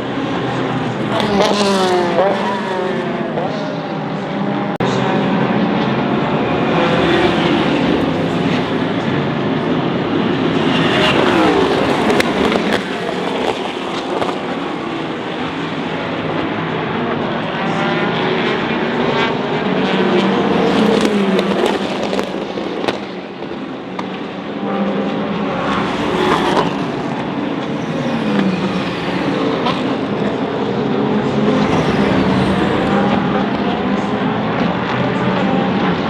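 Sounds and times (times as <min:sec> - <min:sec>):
race cars passing by: 0:00.0 - 0:36.0
racing engines: 0:00.0 - 0:36.0.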